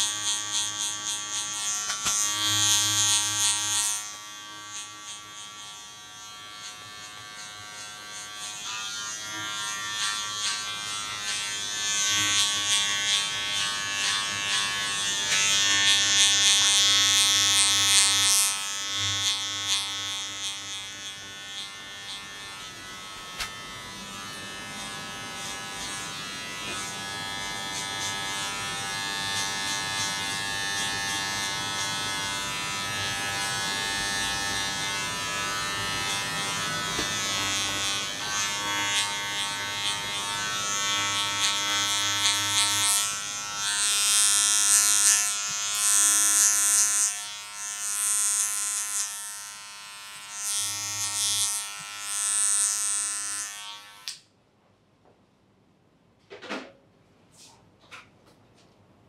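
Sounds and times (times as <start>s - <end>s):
electric hair clippers buzzing: 0.0s - 54.3s.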